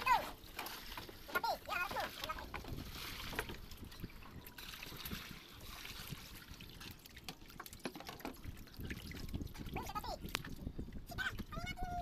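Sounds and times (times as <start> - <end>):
faint water trickle: 0.4 - 12.0.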